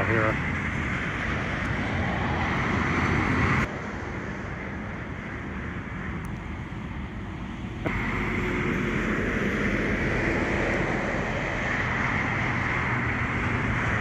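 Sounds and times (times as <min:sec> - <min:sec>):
highway traffic: 0:00.0 - 0:14.0
wind: 0:00.0 - 0:14.0.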